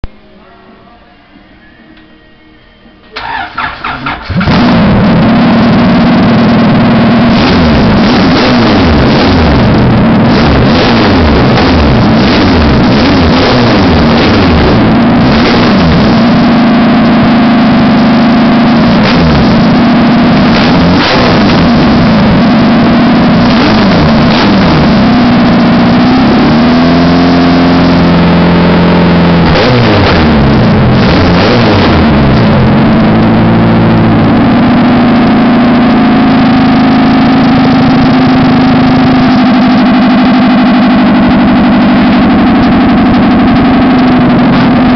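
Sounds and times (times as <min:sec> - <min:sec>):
car engine cranking and starting: 0:03.1 - 0:44.9
engine revving: 0:03.2 - 0:44.9.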